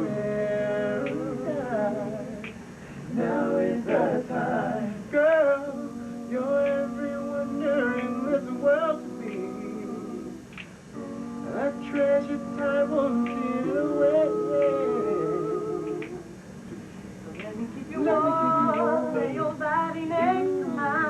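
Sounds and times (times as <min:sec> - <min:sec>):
male a cappella vocal group: 0:00.0 - 0:16.4, 0:17.3 - 0:21.0.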